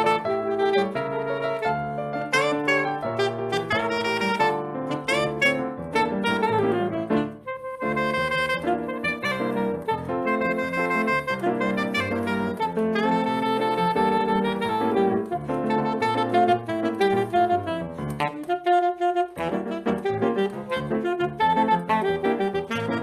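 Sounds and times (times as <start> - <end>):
instrumental jazz accompaniment: 0.0 - 23.0
saxophone melody: 0.0 - 23.0.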